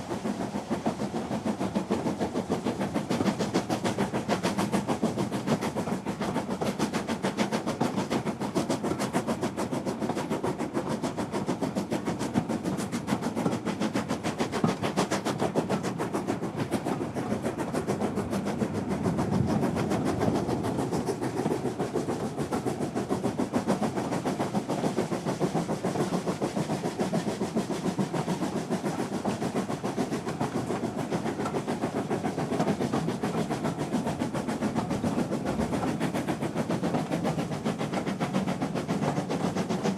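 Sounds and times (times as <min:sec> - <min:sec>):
train clicking and rumbling: 0:00.0 - 0:39.9.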